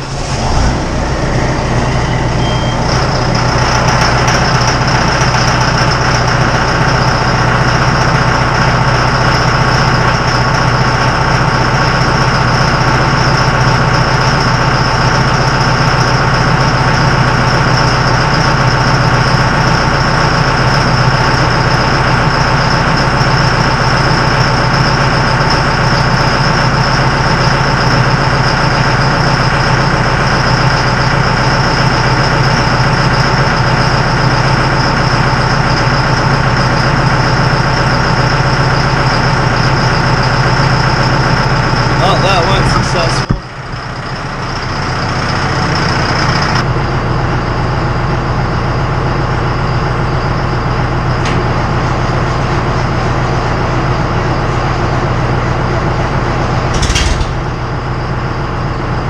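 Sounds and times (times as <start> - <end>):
diesel tractor engine idling: 0.0 - 59.0.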